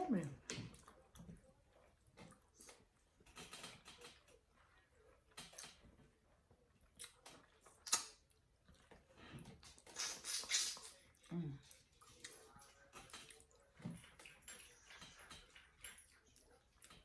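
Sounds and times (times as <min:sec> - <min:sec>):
person chewing with wet clicks: 0:00.3 - 0:17.0.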